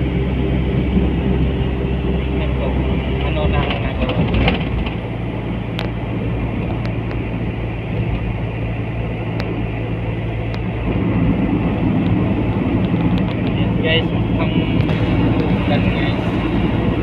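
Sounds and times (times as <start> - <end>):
car low drone: 0.0 - 17.0
wind rushing through car cabin: 0.0 - 17.0.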